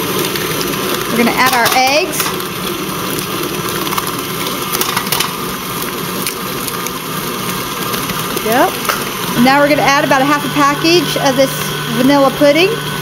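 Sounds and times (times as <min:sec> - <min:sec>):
stand mixer motor running: 0:00.0 - 0:13.0.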